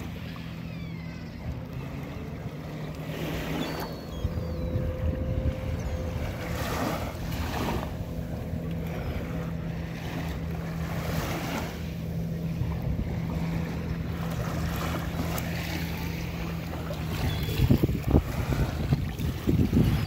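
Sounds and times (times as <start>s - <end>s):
small waves lapping: 0.0s - 20.0s
steady low hum: 0.0s - 20.0s
wind on microphone: 0.0s - 20.0s.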